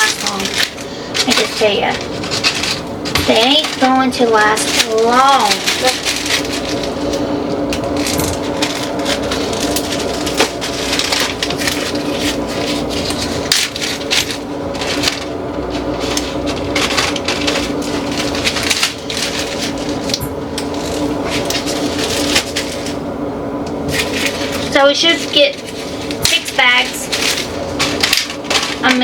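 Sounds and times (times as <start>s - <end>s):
plastic packaging crinkling: 0.0s - 23.1s, 23.7s - 29.0s
low hum: 0.0s - 29.0s.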